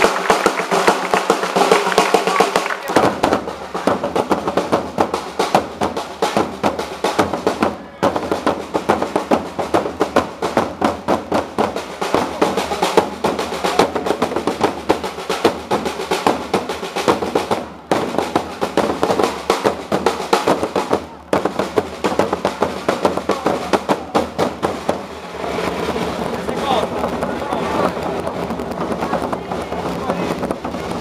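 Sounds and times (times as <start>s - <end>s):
parade drums beating: 0.0s - 31.0s.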